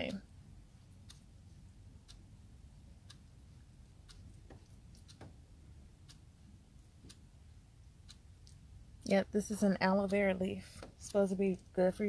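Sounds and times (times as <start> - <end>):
faint ticking: 0.0 - 12.0.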